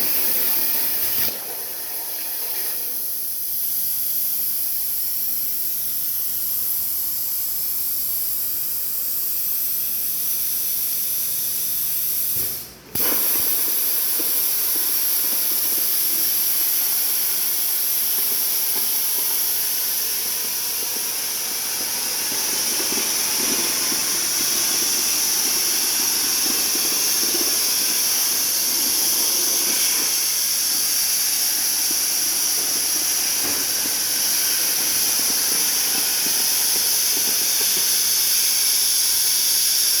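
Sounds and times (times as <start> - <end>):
plasma torch hissing: 0.0 - 1.4, 2.3 - 40.0.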